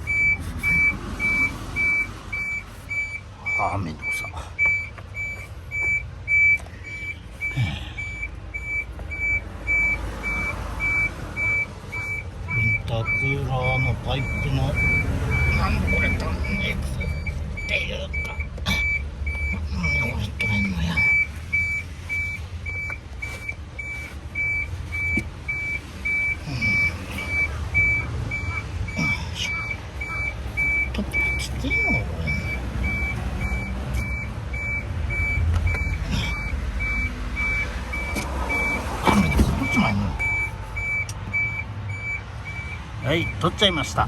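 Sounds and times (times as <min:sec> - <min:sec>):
diesel engine idling: 0:00.0 - 0:44.0
vehicle reversing beeper: 0:00.0 - 0:44.0.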